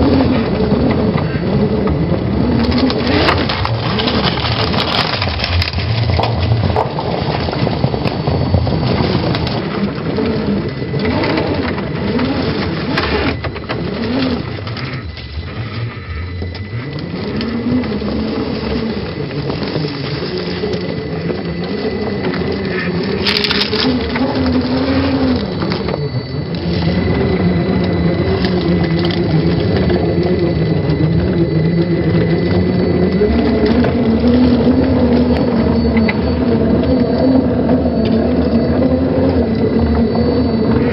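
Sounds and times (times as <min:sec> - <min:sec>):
rc car electric motor whine: 0:00.0 - 0:40.9
tyres ticking and scraping on rock: 0:00.0 - 0:40.9.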